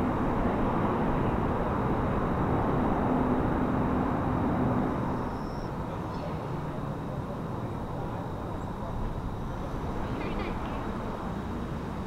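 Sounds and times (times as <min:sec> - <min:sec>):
distant motor vehicles rumbling: 0:00.0 - 0:12.0
faint hum: 0:00.0 - 0:12.0.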